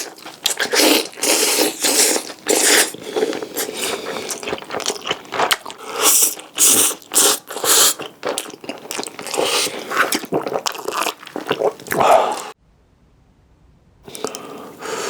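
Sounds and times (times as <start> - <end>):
chewing and crunching food: 0.0 - 12.6.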